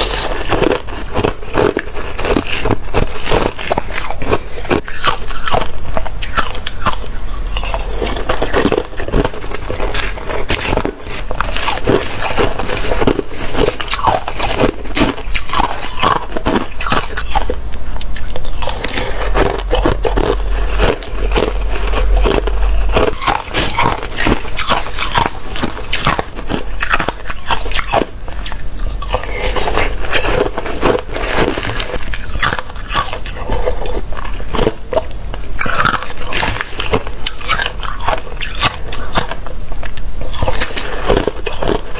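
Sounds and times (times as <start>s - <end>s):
chewing slushy ice: 0.0s - 41.9s.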